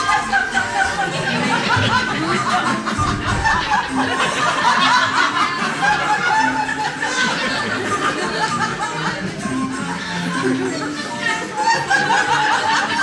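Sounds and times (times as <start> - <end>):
audience chattering: 0.0 - 13.0
audience laughing: 0.0 - 13.0
background music: 0.0 - 13.0.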